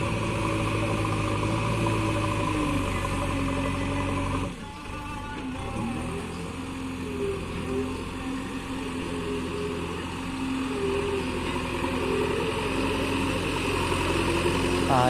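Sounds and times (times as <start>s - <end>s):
heavy machinery diesel engine running: 0.0s - 15.0s.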